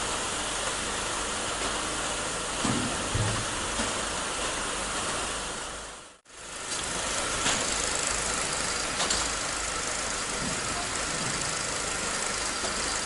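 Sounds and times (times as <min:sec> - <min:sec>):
conveyor belt running: 0:00.0 - 0:13.0
hiss: 0:00.0 - 0:13.0.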